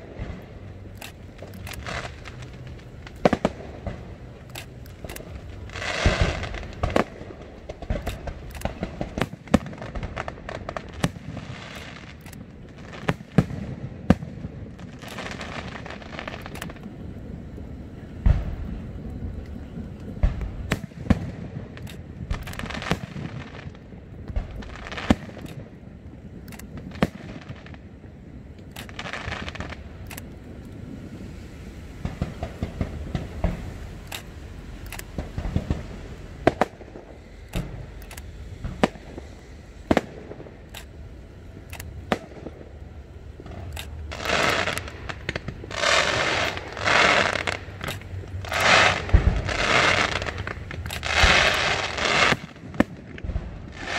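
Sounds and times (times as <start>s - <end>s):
firework bangs: 0.0s - 53.9s
firework crackling: 0.0s - 53.9s.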